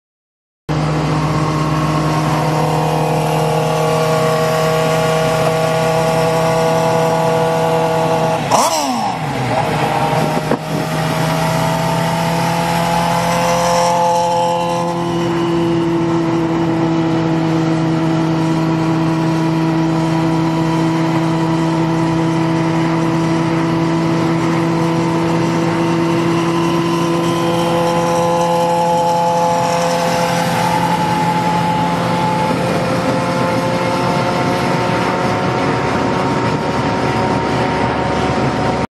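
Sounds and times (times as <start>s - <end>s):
car engine and road noise: 0.7s - 38.9s
motorcycle passing with falling whine: 0.7s - 38.9s.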